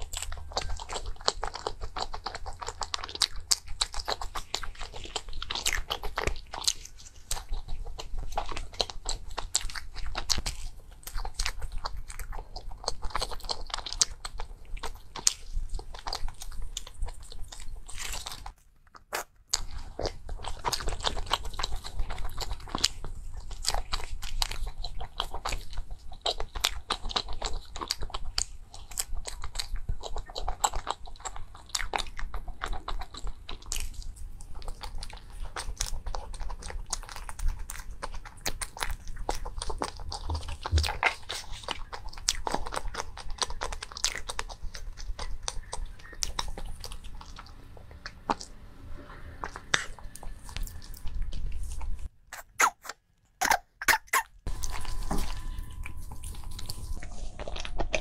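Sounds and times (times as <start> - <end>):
mouth clicks and smacks: 0.0 - 48.6, 49.4 - 54.8
chewing soft cake: 0.0 - 58.0.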